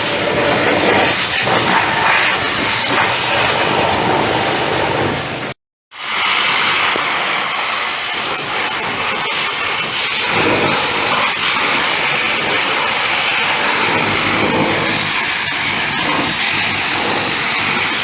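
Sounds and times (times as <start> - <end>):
pressure washer jet spraying: 0.0 - 18.0.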